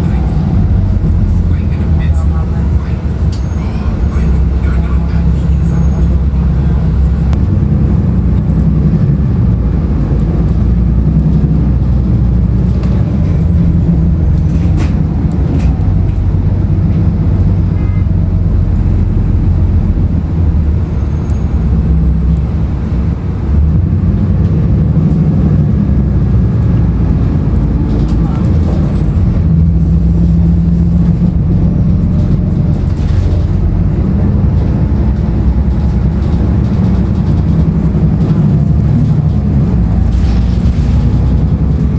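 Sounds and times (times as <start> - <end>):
bus diesel engine droning: 0.0 - 41.9
road noise: 0.0 - 41.9.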